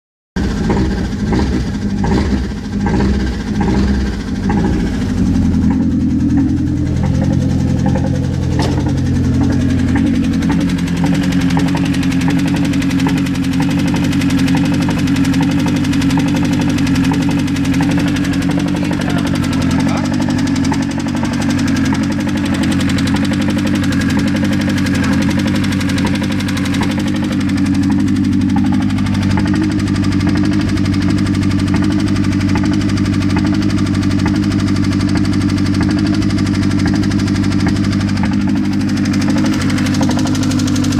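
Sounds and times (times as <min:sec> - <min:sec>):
car engine idling: 0:00.4 - 0:40.9
rapid engine ticking: 0:00.4 - 0:40.9.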